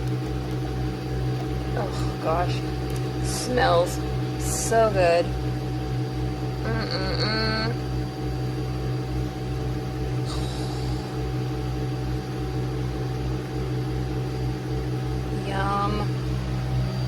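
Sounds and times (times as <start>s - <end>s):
coffee machine humming: 0.0s - 17.0s
milk frother running: 0.0s - 17.0s.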